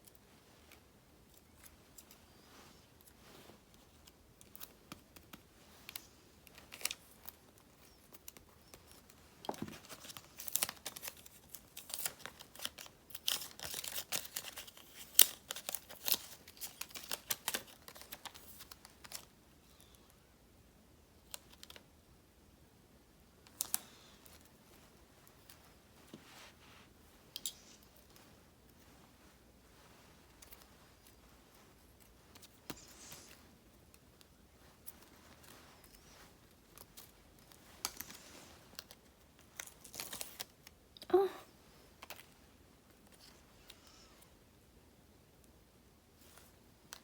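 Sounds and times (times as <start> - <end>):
paper and stickers crinkling: 0.0 - 20.0, 23.4 - 41.3, 41.9 - 44.0.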